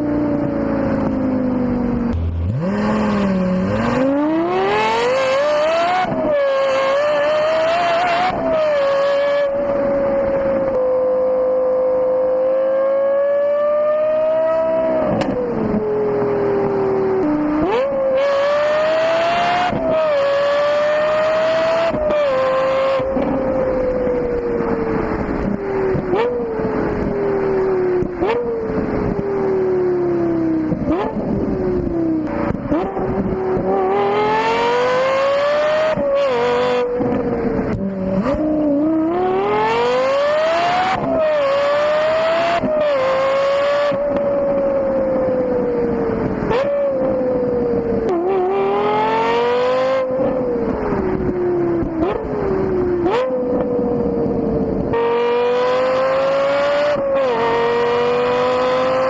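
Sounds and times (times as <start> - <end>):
car engine revving and shifting: 0.0 - 59.0.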